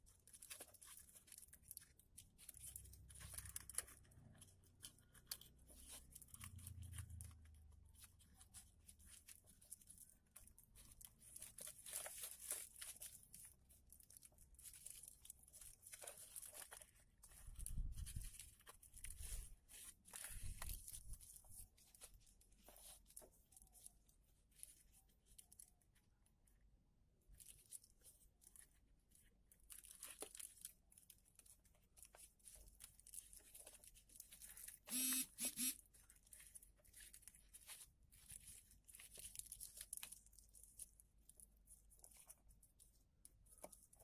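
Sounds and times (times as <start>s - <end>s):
paper rustling and crinkling: 0.0s - 26.6s, 27.2s - 44.0s.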